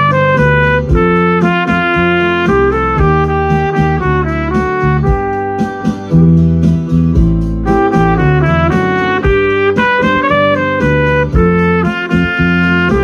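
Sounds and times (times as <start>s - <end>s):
trumpet playing a melody: 0.0s - 13.0s.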